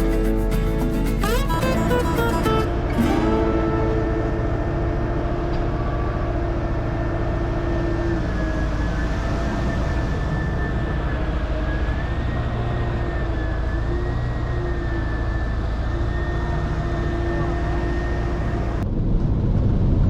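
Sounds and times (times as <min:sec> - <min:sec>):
faint even whine: 0:00.0 - 0:18.8
truck engine and road drone: 0:00.0 - 0:20.0.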